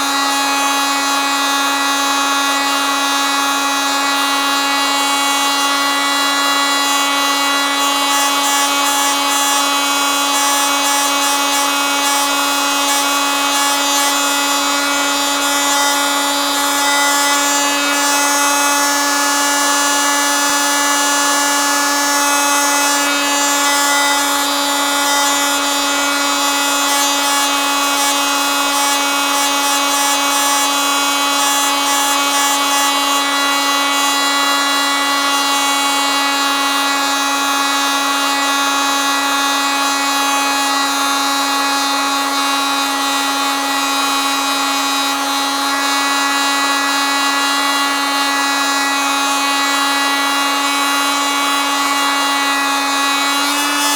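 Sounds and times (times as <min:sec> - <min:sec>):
oscillating multitool buzzing whine: 0:00.0 - 0:53.9.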